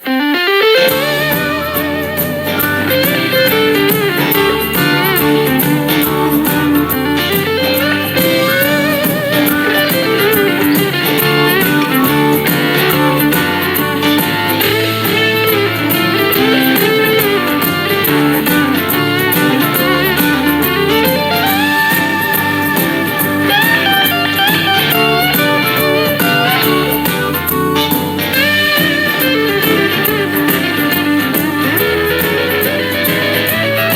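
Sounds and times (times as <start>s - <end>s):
blues-rock music on speaker: 0.0s - 33.9s.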